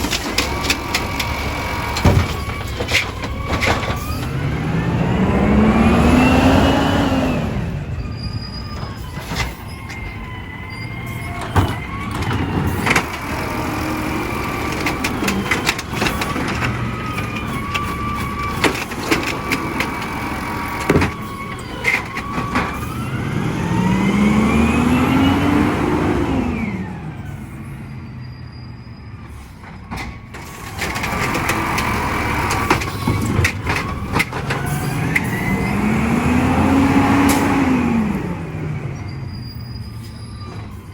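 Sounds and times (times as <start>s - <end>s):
garbage truck engine revving: 0.0s - 28.1s, 30.3s - 40.9s.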